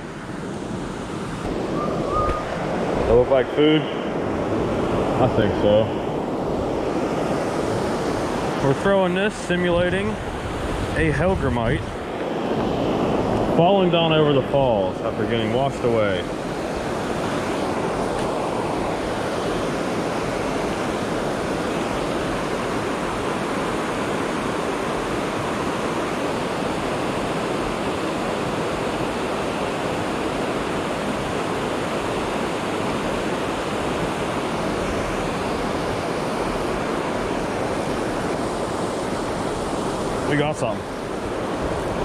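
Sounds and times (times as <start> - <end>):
water rushing over dam: 0.1 - 42.0.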